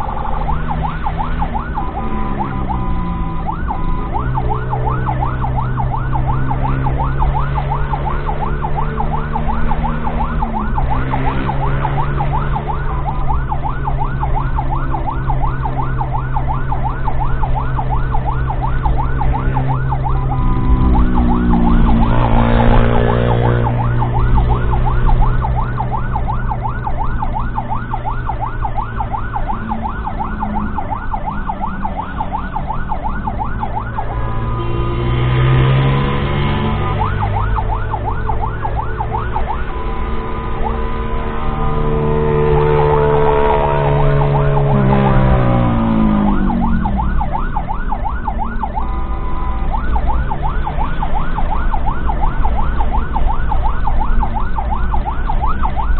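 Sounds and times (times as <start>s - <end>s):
ambulance siren yelping: 0.0s - 55.9s
engine drone: 0.0s - 55.9s
siren falling tone: 0.0s - 55.9s.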